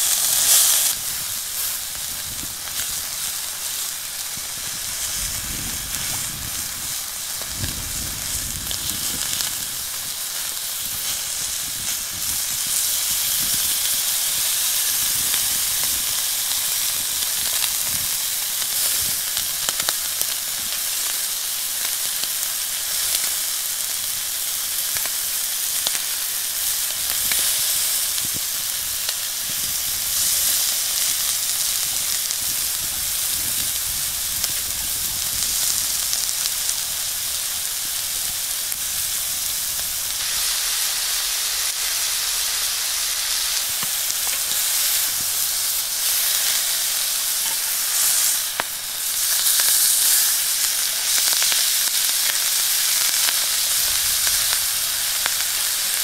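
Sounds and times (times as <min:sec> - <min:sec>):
steaks sizzling in a pan: 0:00.0 - 0:56.0.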